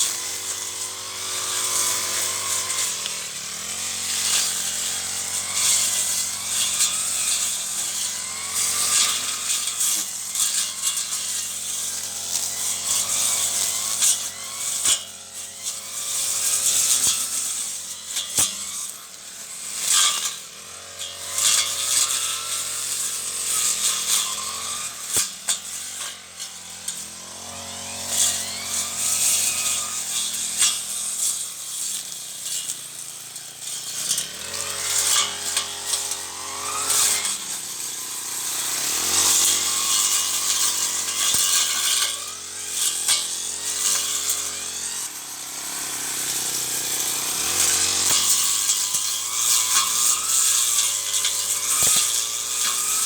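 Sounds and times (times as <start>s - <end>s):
brush cutter engine revving: 0.0s - 53.0s.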